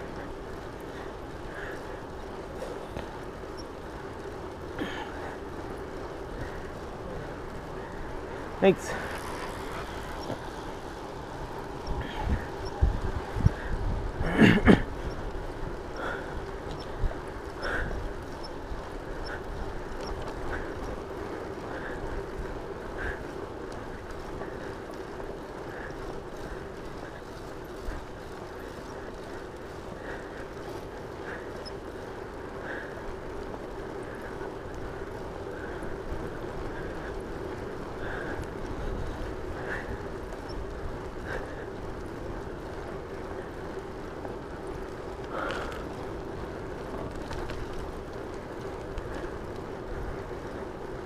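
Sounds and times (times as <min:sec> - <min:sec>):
motor and tyre hum: 0:00.0 - 0:51.0
wind rush on microphone: 0:00.0 - 0:51.0.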